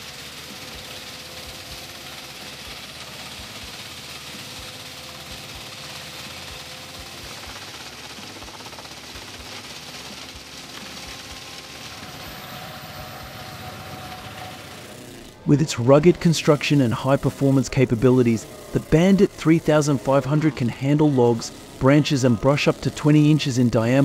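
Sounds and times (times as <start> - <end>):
branches shredding hiss: 0.0 - 24.0
wood chipper drone: 0.0 - 24.0
wood knocking in chipper: 0.0 - 24.0.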